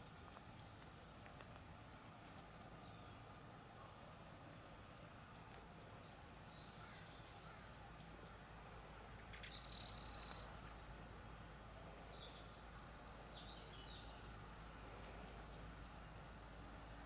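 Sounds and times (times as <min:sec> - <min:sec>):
small birds chirping: 0:00.0 - 0:01.7, 0:02.3 - 0:17.0
quiet background hum: 0:00.0 - 0:17.0.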